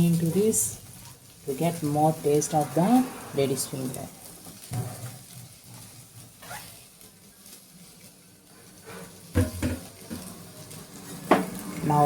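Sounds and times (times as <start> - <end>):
faint frying sizzle: 0.0 - 12.0.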